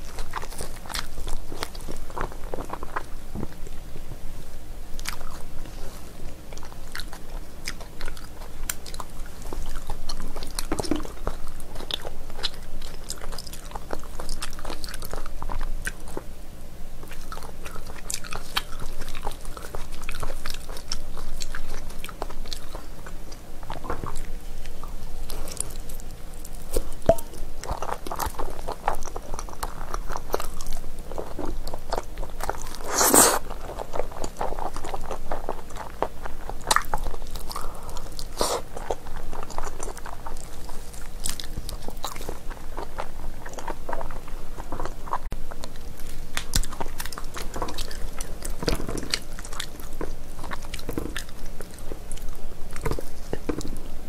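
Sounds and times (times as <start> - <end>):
wet chewing and mouth clicks: 0.0 - 3.8, 4.9 - 16.3, 17.0 - 53.9.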